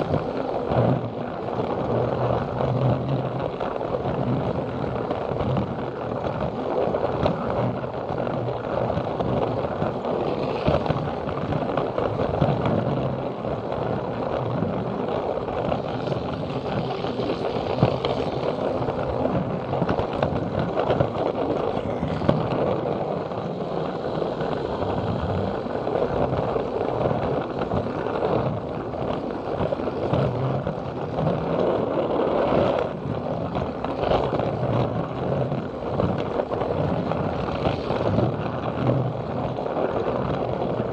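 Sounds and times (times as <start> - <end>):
wheels rattling over plastic track: 0.0 - 40.9.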